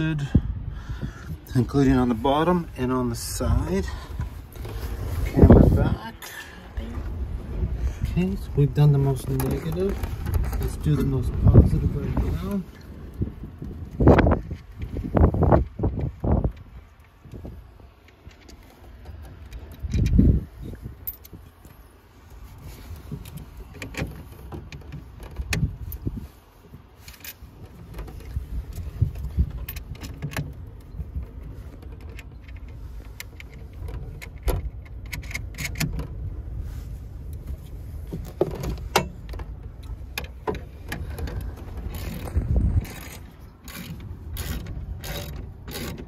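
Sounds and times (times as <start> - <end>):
low steady rumble: 0.0 - 46.0.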